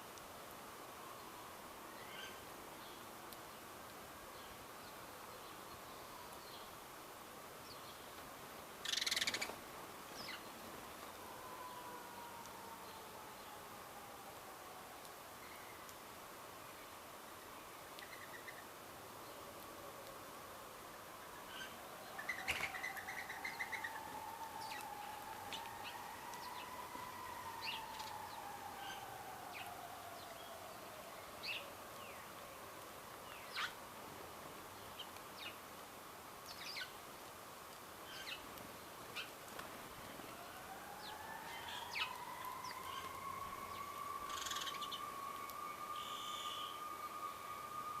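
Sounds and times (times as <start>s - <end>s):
wild birds chirping: 1.1s - 6.8s, 7.6s - 33.9s, 34.6s - 35.7s, 36.4s - 37.1s, 38.0s - 48.0s.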